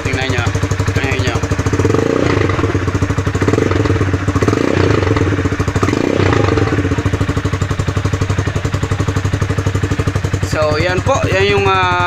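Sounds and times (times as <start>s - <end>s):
motorcycle idling: 0.0s - 12.0s.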